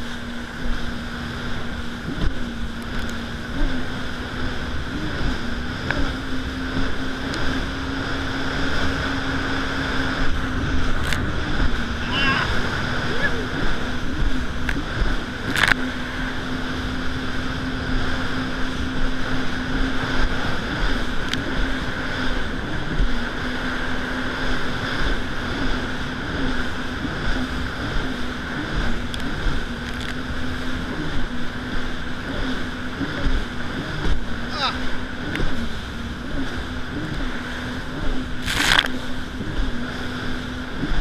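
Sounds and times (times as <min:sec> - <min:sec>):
jet ski engine running: 0:00.0 - 0:41.0
water rushing against hull: 0:00.0 - 0:41.0.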